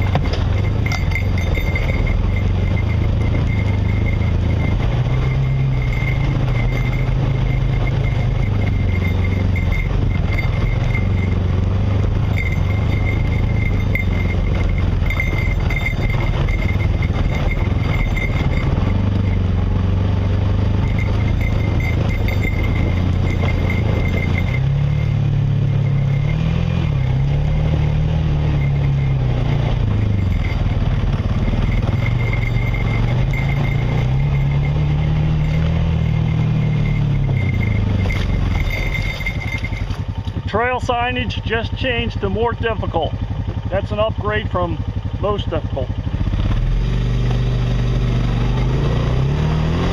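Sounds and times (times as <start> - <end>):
off-road vehicle engine revving: 0.0 - 49.9.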